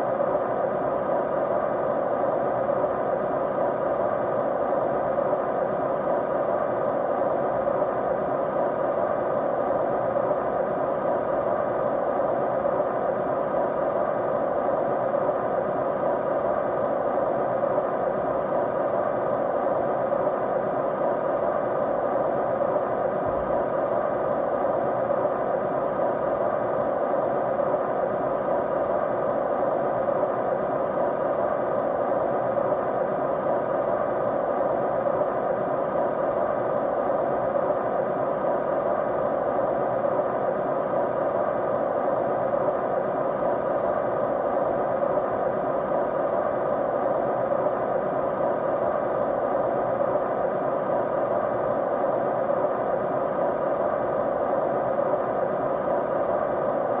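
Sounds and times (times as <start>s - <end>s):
faint hum: 0.0s - 57.0s
white noise: 0.0s - 57.0s.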